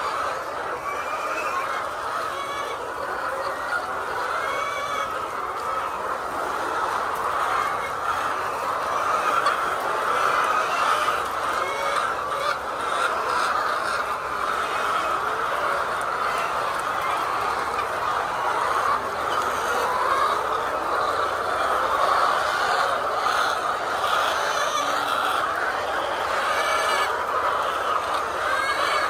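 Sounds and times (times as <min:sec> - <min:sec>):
chickens clucking: 0:00.0 - 0:29.0
higher chicken calls: 0:00.0 - 0:29.0.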